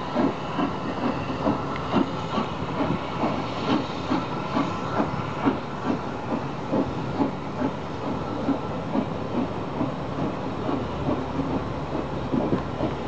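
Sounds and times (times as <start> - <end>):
steam train chuffing and hissing: 0.0 - 13.0.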